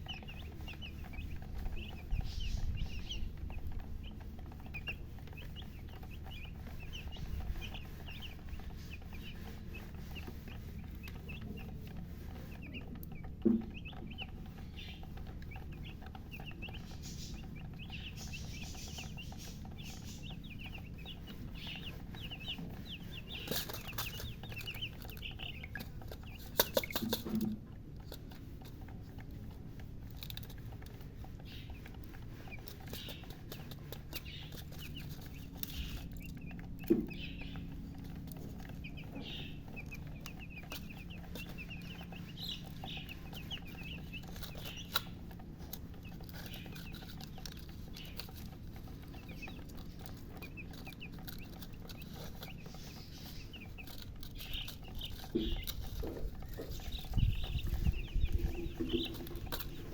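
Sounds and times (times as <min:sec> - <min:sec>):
chicks peeping: 0:00.0 - 0:59.9
low steady hum: 0:00.0 - 0:59.9.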